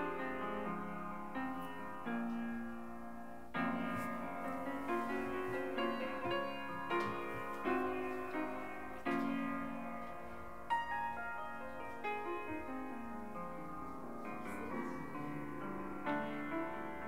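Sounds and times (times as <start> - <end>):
piano notes and chords: 0.0 - 17.0.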